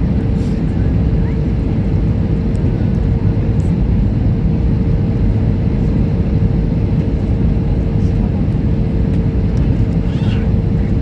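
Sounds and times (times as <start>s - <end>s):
constant low hum: 0.0s - 11.0s
jet engines rumbling: 0.0s - 11.0s.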